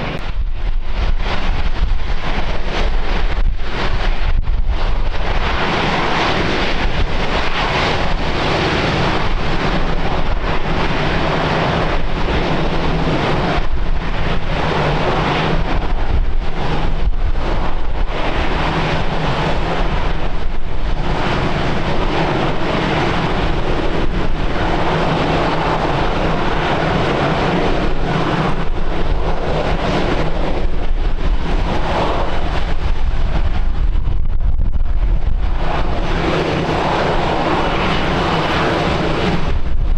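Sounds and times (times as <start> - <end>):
airliner engines droning: 0.0 - 39.9
wind gusting on microphone: 0.0 - 39.9.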